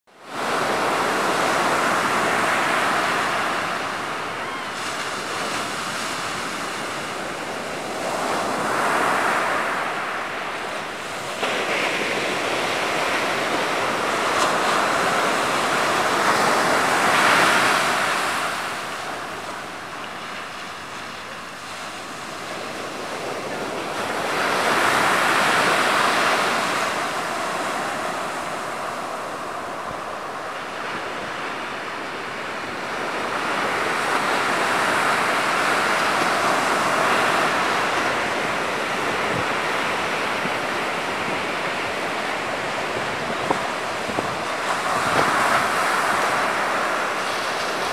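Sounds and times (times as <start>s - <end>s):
waves washing in and out: 0.1s - 47.9s
wind blowing across microphone: 0.1s - 47.9s.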